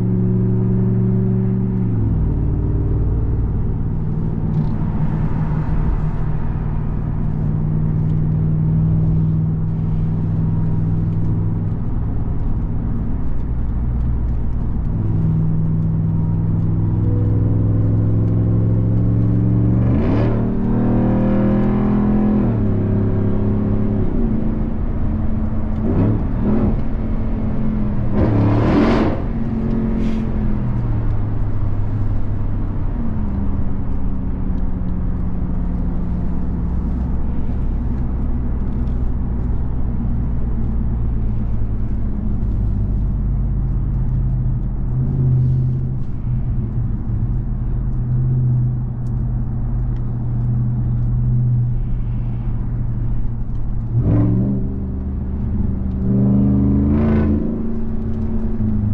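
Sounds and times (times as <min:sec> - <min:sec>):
truck engine accelerating: 0:00.0 - 0:58.9.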